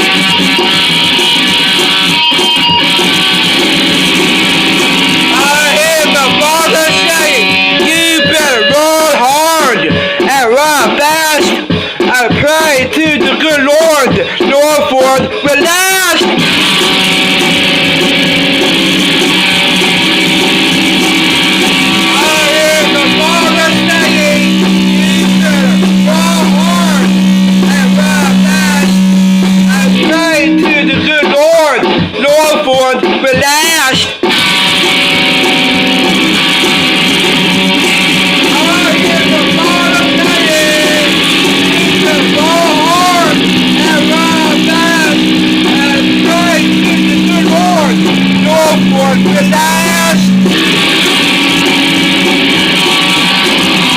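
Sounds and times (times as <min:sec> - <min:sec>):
lead guitar bending notes: 0:00.0 - 0:53.9
rock guitar playing: 0:00.0 - 0:53.9.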